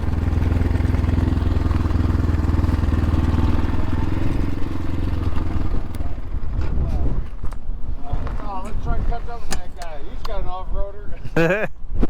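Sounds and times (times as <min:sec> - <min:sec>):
dirt bike engine running: 0:00.0 - 0:10.5.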